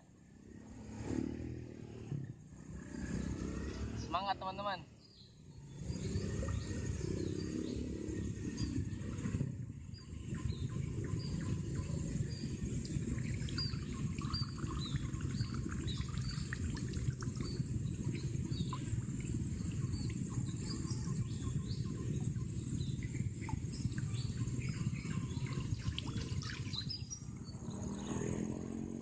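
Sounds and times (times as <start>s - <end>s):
low outdoor rumble: 1.8s - 29.0s
bird chirping: 3.1s - 28.7s.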